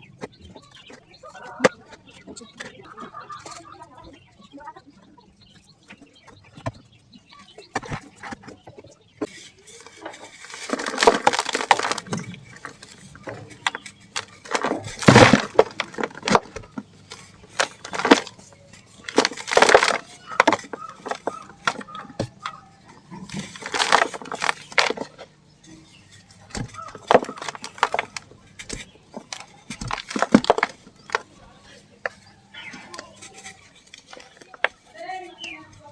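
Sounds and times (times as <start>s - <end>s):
dried dirt crumbling: 0.1s - 35.9s
small gritty clicks: 6.0s - 35.9s.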